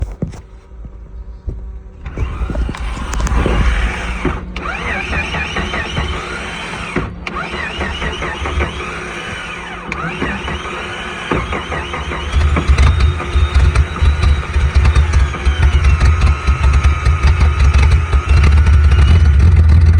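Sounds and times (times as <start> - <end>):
engine starting and idling: 1.9 - 19.9.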